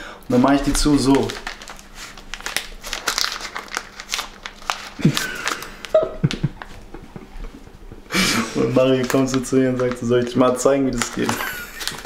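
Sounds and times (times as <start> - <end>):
spice packet crinkling: 0.3 - 6.8, 8.8 - 12.0.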